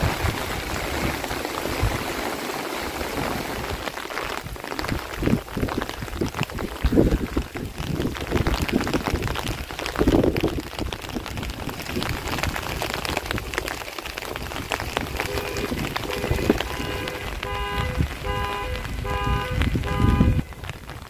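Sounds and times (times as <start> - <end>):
rain pattering: 0.0 - 21.0
wind rumbling on microphone: 0.0 - 21.0.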